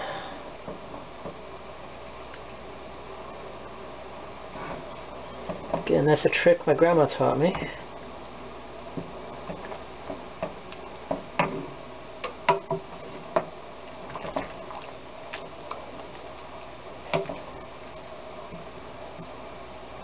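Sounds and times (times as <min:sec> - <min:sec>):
steady low hiss: 0:00.0 - 0:20.0.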